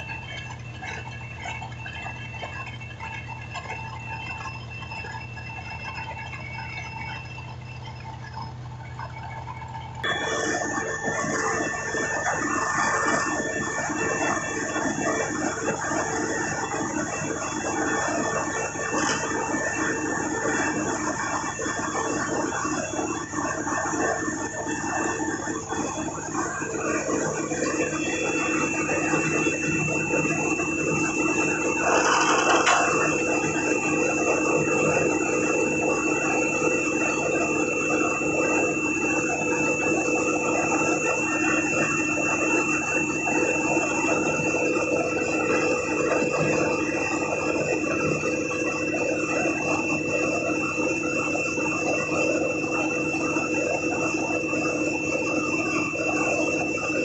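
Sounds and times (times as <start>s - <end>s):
concreting machinery running: 0.0s - 57.0s
high whine: 0.0s - 57.0s.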